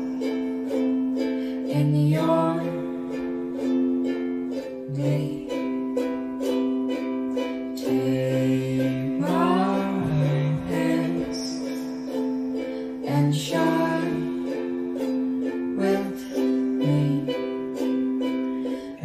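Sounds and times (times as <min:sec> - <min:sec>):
plucked string instrument: 0:00.0 - 0:19.0.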